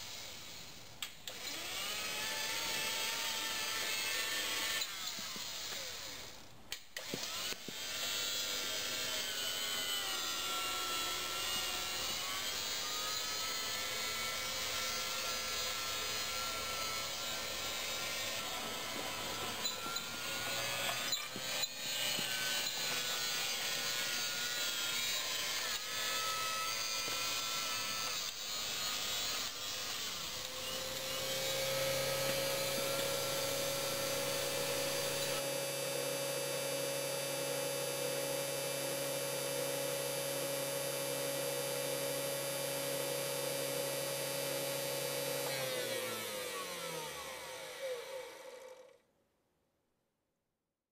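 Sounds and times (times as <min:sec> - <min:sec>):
electric drive whine: 0:07.0 - 0:48.9.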